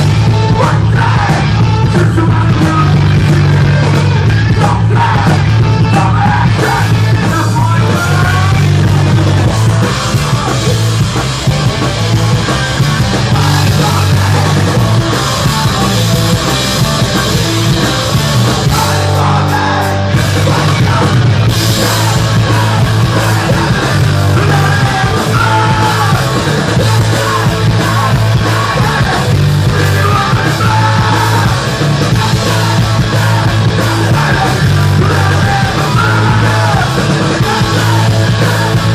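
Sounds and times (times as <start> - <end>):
bass notes: 0.0 - 38.9
punk rock band playing: 0.0 - 38.9
singer's vocals: 0.0 - 38.9.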